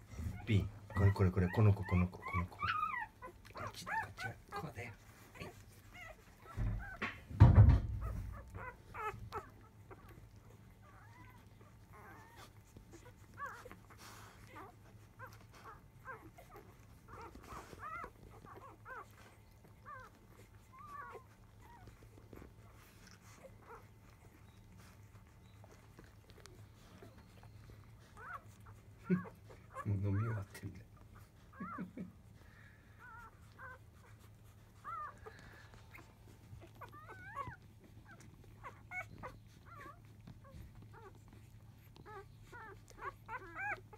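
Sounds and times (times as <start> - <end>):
puppies squeaking and whimpering: 0.0 - 43.9.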